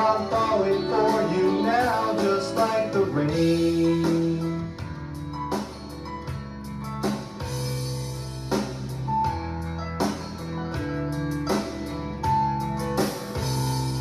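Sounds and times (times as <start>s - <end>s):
country music guitars and drums: 0.0s - 14.0s.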